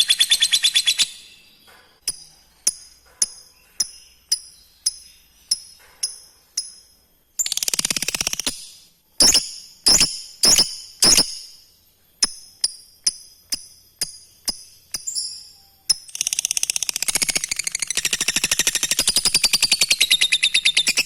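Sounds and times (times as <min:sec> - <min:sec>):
lovebird high chirps: 0:00.0 - 0:21.0
lovebird chattering trill: 0:02.1 - 0:11.6, 0:12.2 - 0:21.0.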